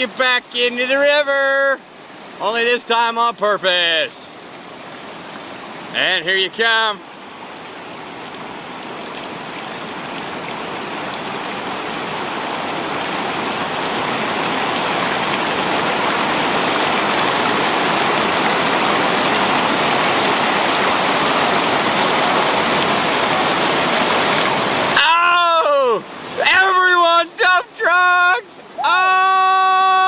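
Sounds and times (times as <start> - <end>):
river rapids rushing: 0.0 - 30.0.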